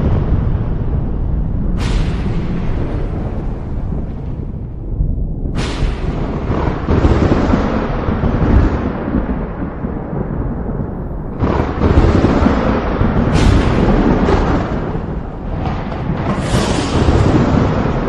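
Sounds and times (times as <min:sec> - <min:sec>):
thunder rumbling and cracking: 0:00.0 - 0:18.0.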